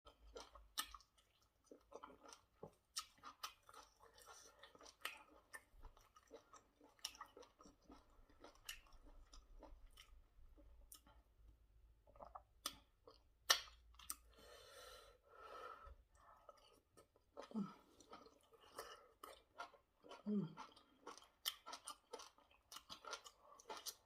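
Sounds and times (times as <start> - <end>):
person chewing with wet smacks: 0.1 - 11.4, 12.0 - 14.3, 16.0 - 24.0.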